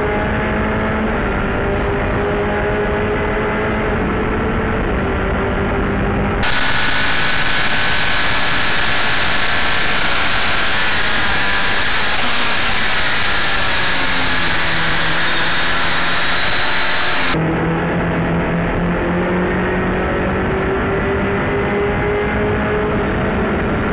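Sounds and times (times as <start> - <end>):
race car engine at high revs: 0.0 - 23.9.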